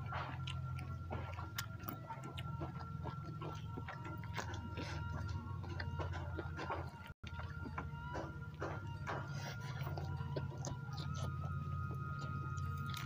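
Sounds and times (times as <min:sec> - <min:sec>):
chewing and lip smacks: 0:00.0 - 0:13.0
steady low hum: 0:00.0 - 0:13.0.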